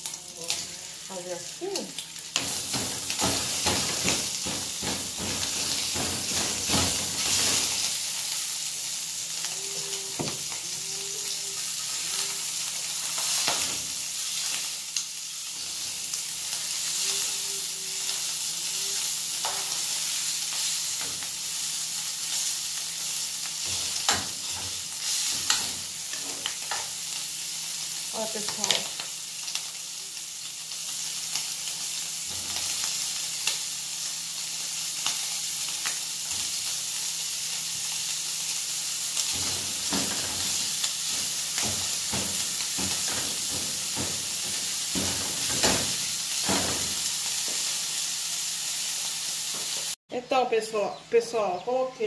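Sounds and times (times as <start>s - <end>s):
sausage sizzling in oil: 0.0s - 52.0s.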